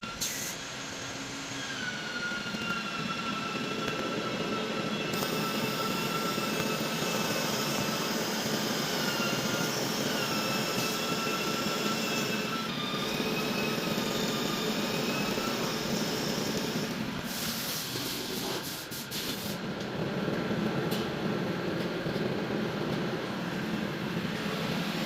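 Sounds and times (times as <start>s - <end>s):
welding machine whining: 0.0s - 25.0s.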